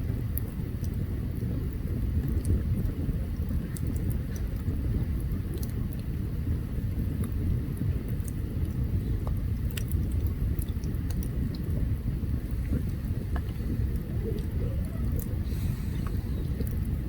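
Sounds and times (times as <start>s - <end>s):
fire low rumble: 0.0s - 17.0s
campfire crackling and popping: 0.1s - 15.5s.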